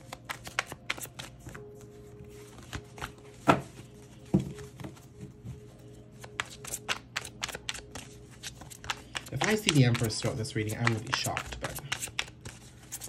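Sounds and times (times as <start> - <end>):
cards being shuffled: 0.0 - 3.7, 6.0 - 13.0.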